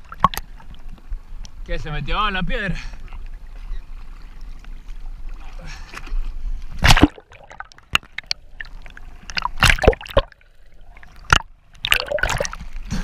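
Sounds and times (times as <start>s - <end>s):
water sloshing and splashing: 0.0s - 1.5s, 2.9s - 13.0s.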